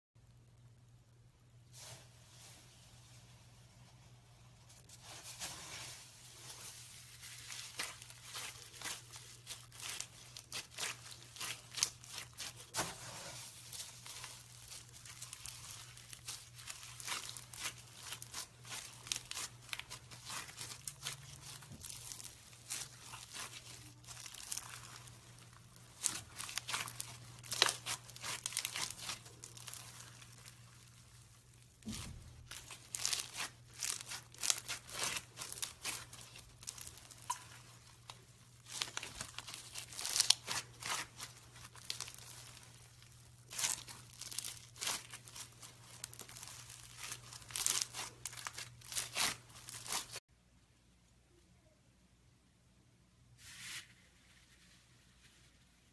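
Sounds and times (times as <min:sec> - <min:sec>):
foam slime squished by hand: 0:04.6 - 0:50.2.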